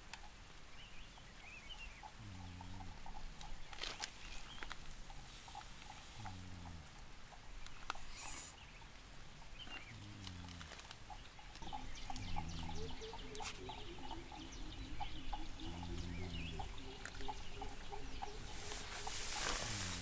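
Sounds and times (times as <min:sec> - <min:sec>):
soft regular ticking: 0:00.0 - 0:19.2
birds chirping: 0:00.0 - 0:20.0.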